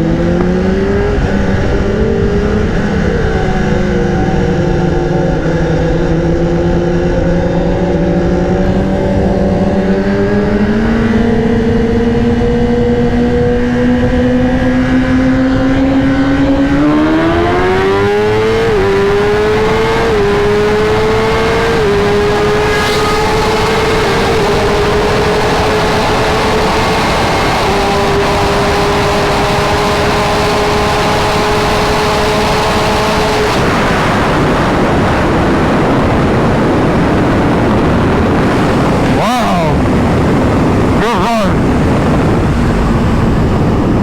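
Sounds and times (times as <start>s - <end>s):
motorcycle engine revving high: 0.0s - 44.0s.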